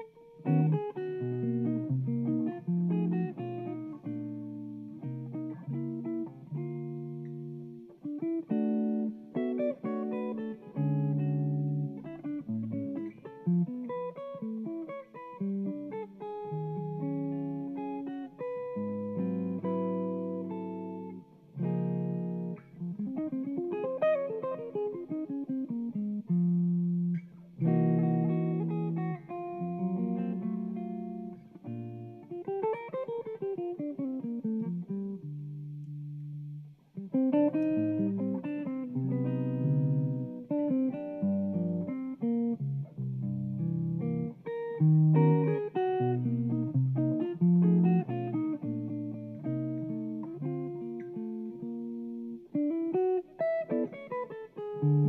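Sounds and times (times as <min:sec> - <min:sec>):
solo electric jazz guitar: 0:00.0 - 0:55.0.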